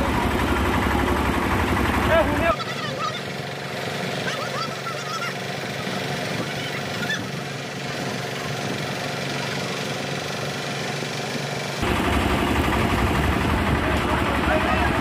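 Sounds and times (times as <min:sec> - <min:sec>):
concrete mixer engine running: 0:00.0 - 0:15.0.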